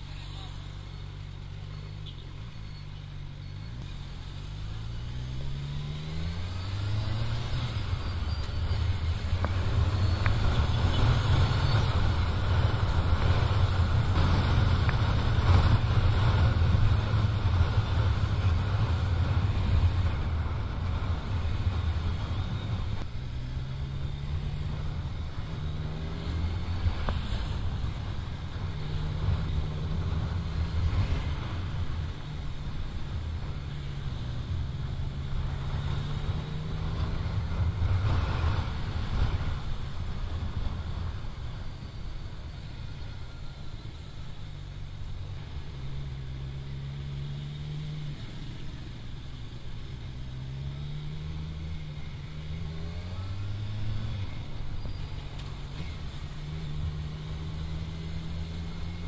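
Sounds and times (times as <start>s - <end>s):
motorcycle engine accelerating: 0.4s - 59.0s.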